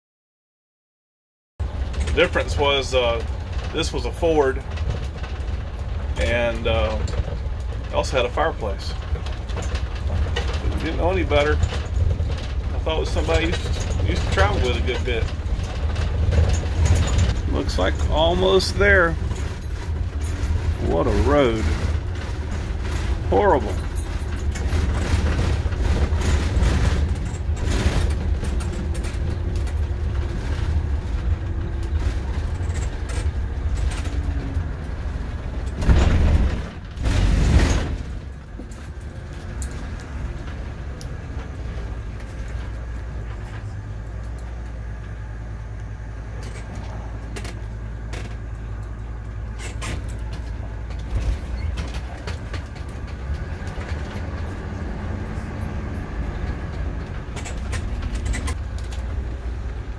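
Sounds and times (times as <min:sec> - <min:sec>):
engine and road rumble: 0:01.6 - 0:59.9
heavy vehicle jolts: 0:01.6 - 0:59.9.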